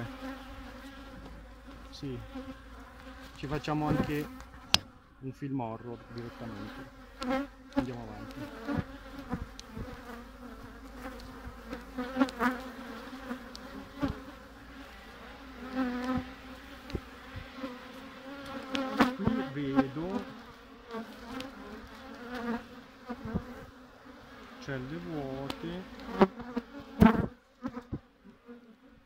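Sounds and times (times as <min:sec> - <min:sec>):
single bees flying close: 0:00.0 - 0:05.1, 0:05.8 - 0:29.0
bees humming: 0:00.0 - 0:29.0.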